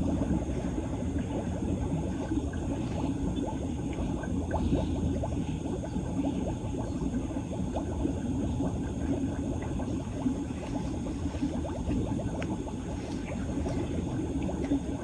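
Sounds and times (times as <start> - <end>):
water gurgling down a drain: 0.0 - 15.0.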